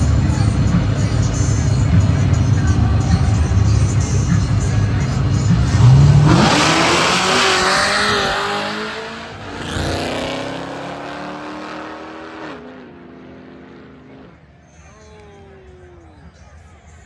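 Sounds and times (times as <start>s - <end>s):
racing car engines accelerating: 0.0s - 14.5s.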